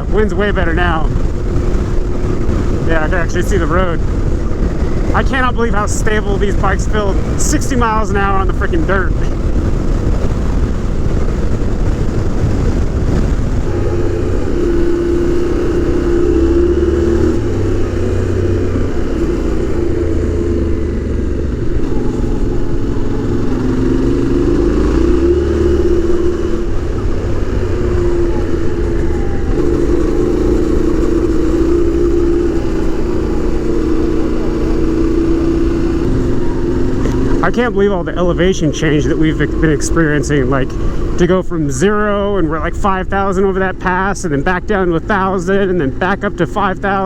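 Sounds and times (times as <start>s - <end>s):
motorcycle engine running: 0.0s - 47.0s
wind: 0.0s - 47.0s.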